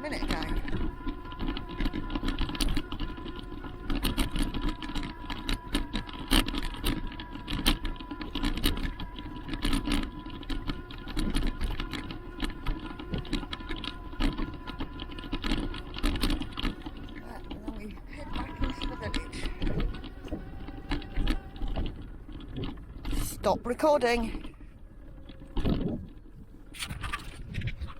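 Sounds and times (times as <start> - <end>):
clicking and rattling: 0.0 - 27.9
electric bike motor tone: 0.0 - 27.9.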